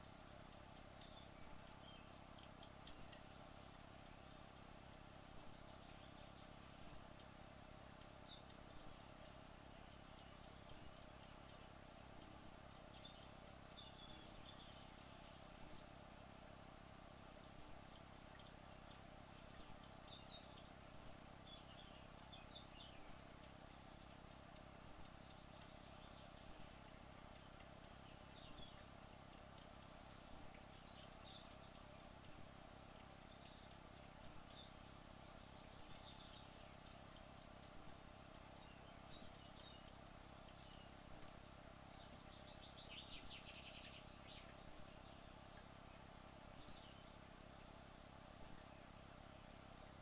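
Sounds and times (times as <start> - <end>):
steady low hiss: 0.0 - 50.0.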